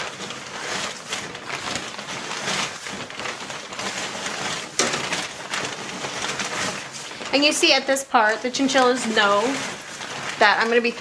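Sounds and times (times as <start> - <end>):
plastic bag crinkling: 0.0 - 11.0
wood shavings rustling: 0.0 - 11.0.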